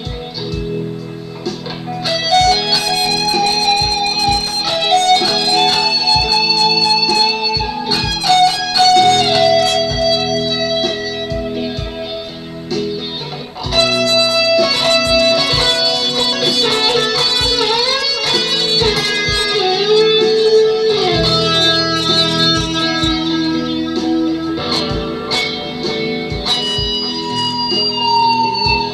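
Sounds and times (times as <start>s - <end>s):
electric guitar lead melody: 0.0s - 28.9s.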